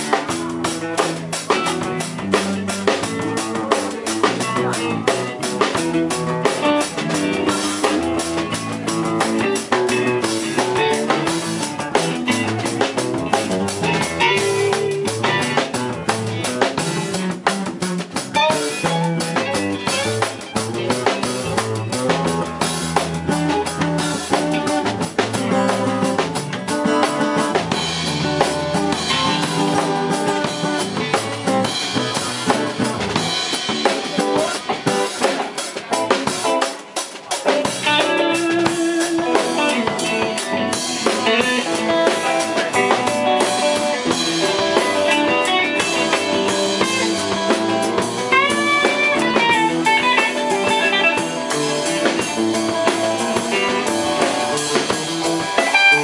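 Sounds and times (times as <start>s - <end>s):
drums keeping steady beat: 0.0s - 56.0s
live band playing reggae-rock: 0.0s - 56.0s.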